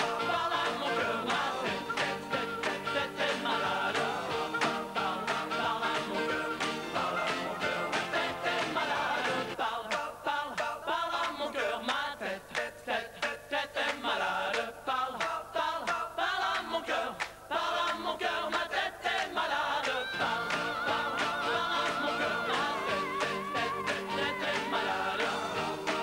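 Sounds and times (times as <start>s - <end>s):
upbeat pop song: 0.0s - 26.0s
wordless choir-like vocals: 0.0s - 26.0s.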